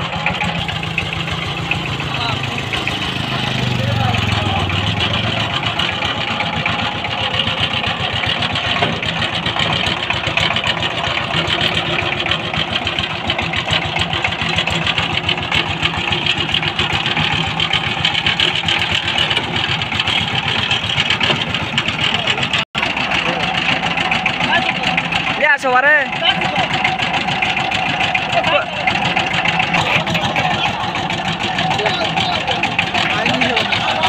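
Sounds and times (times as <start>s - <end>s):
diesel engine running steadily: 0.0s - 34.0s.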